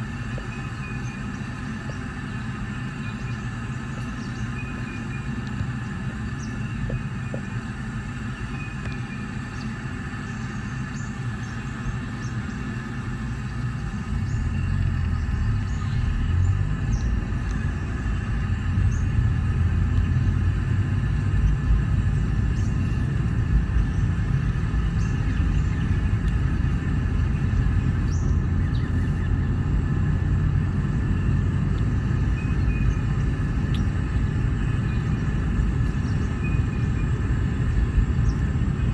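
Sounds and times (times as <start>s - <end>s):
road and engine rumble in car: 0.0s - 38.9s.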